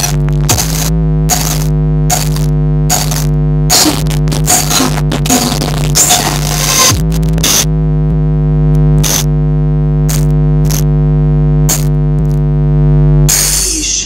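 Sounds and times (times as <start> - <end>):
loudspeaker electrical hum: 0.0 - 14.0.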